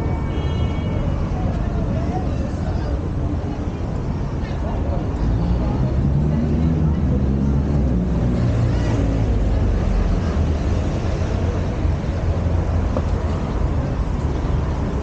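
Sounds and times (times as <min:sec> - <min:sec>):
passing cars rumbling: 0:01.2 - 0:15.0.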